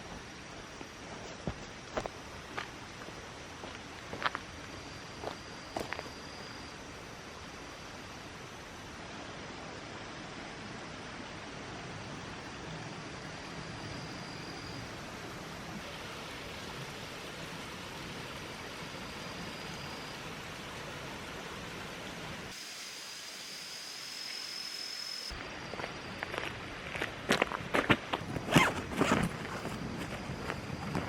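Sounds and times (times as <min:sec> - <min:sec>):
faint high whine: 0:00.0 - 0:31.0.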